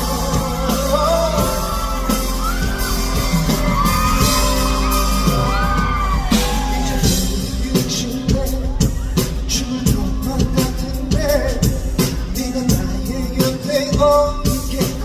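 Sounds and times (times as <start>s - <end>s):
band playing live: 0.0s - 15.0s
bass: 0.0s - 15.0s
person singing: 0.0s - 15.0s
steady drum beat: 0.0s - 15.0s.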